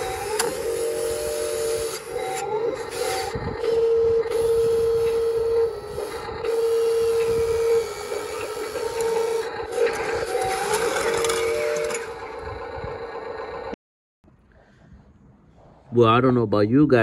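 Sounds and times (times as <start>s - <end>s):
toy loader gear motors whining: 0.0s - 13.8s.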